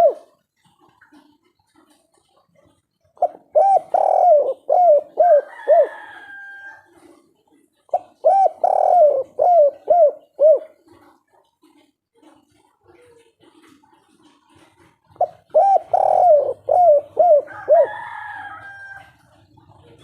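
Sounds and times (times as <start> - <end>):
dove cooing: 0.0 - 1.2, 2.6 - 11.8, 12.9 - 20.0.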